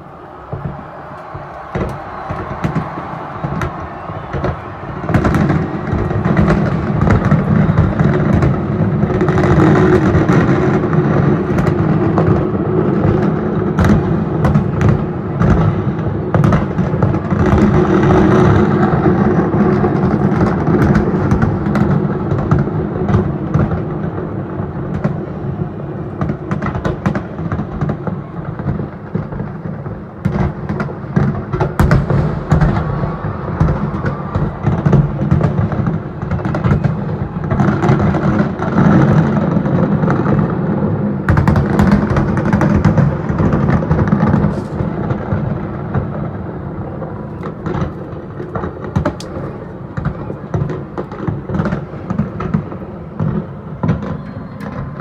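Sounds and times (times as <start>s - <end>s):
fireworks booms and crackles: 0.0s - 55.0s.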